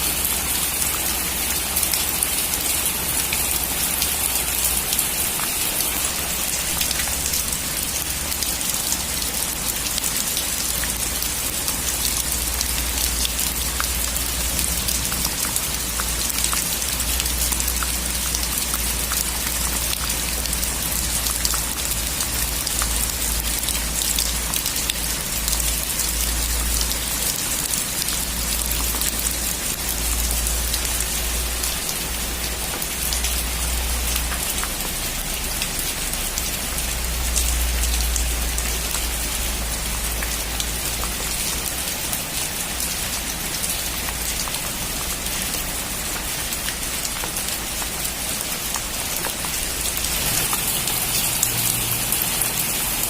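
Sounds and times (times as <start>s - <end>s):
heavy rain on a metal roof: 0.0s - 53.0s.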